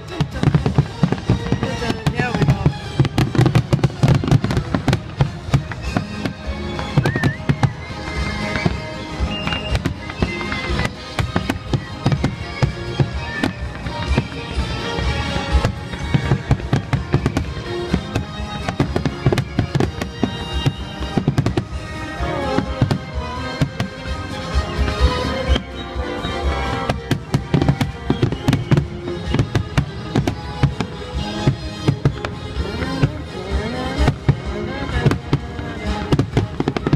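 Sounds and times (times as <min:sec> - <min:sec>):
fireworks launching and bursting: 0:00.0 - 0:36.9
music playing: 0:00.0 - 0:36.9.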